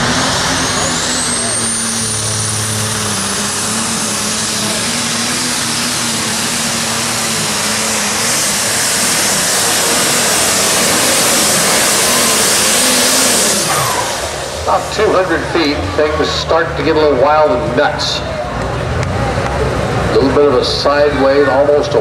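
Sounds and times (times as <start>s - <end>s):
tractor engine running flat out: 0.0s - 22.0s.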